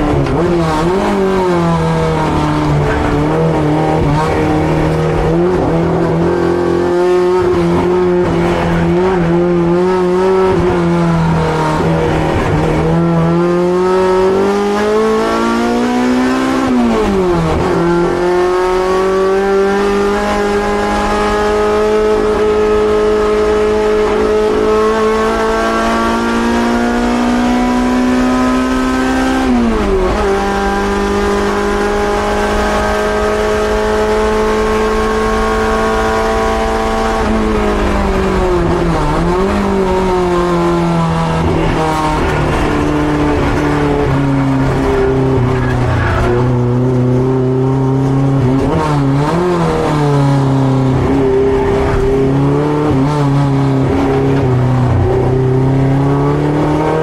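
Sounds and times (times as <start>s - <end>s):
race car engine revving hard: 0.0s - 57.0s.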